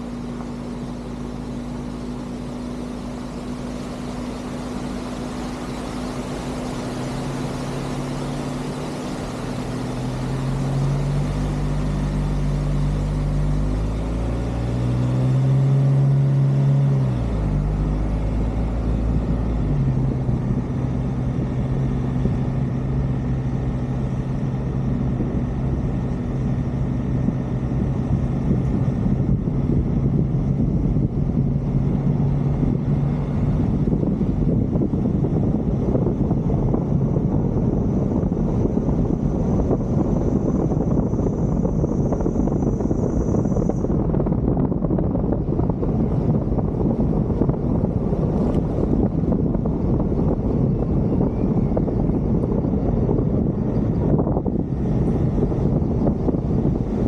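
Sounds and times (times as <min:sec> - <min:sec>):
road noise: 0:00.0 - 0:57.0
vehicle engine drone: 0:00.0 - 0:57.0.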